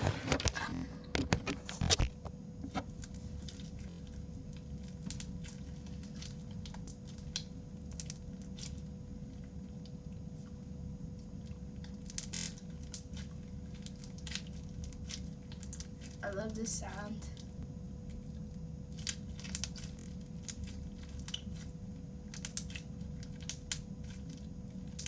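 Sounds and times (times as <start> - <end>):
steady low hum: 0.0 - 25.0
slime crackling and popping: 2.8 - 25.0.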